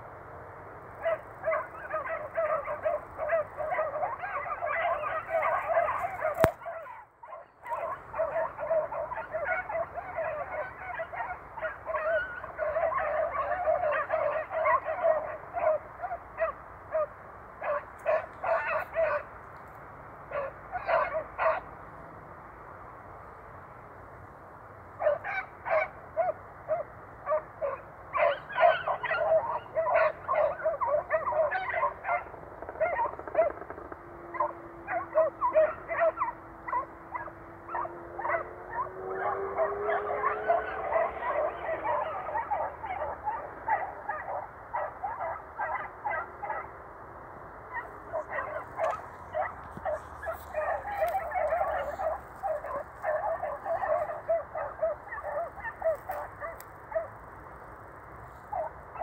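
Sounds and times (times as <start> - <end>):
hounds baying in chorus: 0.8 - 19.5, 20.2 - 21.8, 25.0 - 59.0.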